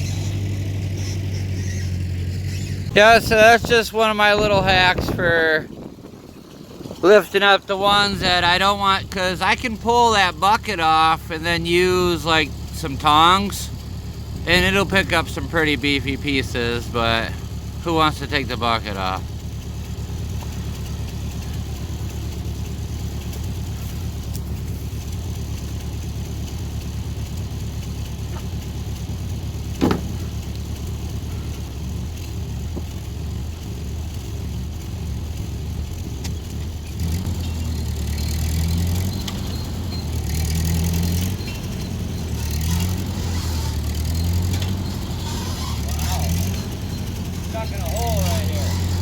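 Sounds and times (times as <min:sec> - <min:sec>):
small tractor engine running: 0:00.0 - 0:49.0.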